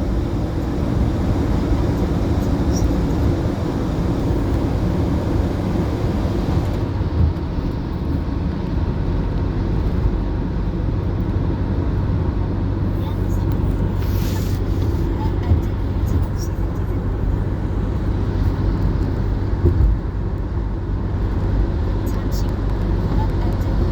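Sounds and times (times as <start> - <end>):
vehicle rumble in motion: 0.0 - 23.9.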